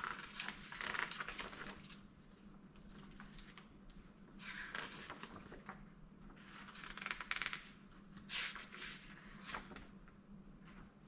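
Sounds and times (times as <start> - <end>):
paper rustling and crinkling: 0.0 - 2.1, 2.8 - 10.0
faint steady hum: 0.0 - 11.0.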